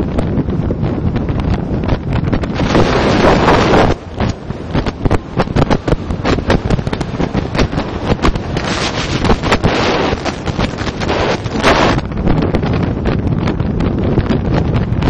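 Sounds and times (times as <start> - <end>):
low rumble of vehicle ride: 0.0 - 15.0
wind buffeting microphone: 0.0 - 15.0.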